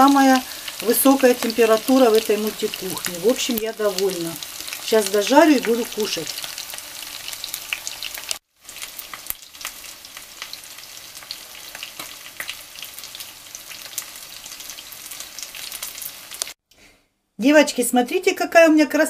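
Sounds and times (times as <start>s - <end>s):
food sizzling in hot oil: 0.0s - 16.6s.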